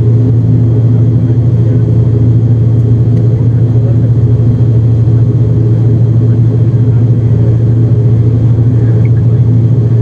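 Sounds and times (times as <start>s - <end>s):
airliner cabin engine hum: 0.0s - 10.0s.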